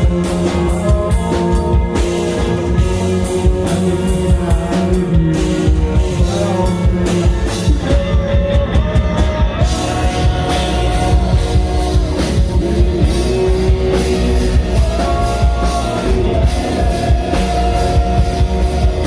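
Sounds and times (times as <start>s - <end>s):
distorted electric guitar: 0.0s - 19.0s
drum kit beating: 0.0s - 19.0s.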